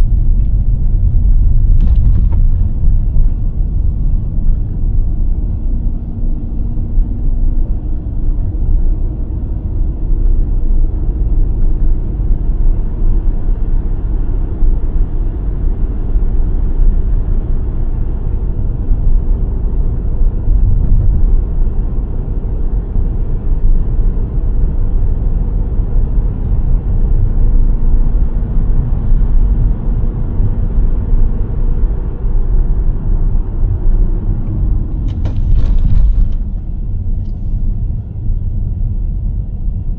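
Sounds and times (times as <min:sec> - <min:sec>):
engine and tyre rumble: 0:00.0 - 0:39.9
faint engine hum: 0:00.0 - 0:39.9.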